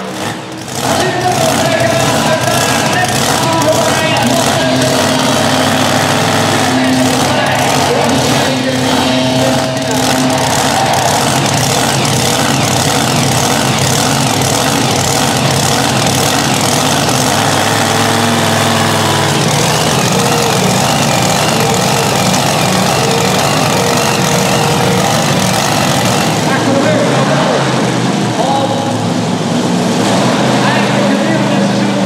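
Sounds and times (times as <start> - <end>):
supercharged engine idling: 0.0 - 32.0.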